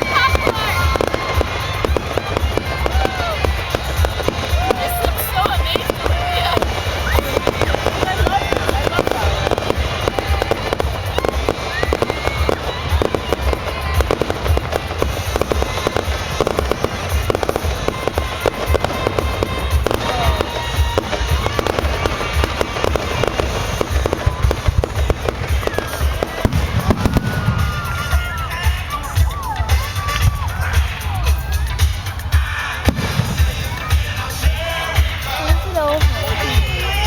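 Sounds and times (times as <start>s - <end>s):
whistles from rising shells: 0.0s - 35.5s
deep rumbling boom: 0.0s - 37.0s
fireworks bangs and crackles: 0.0s - 37.0s.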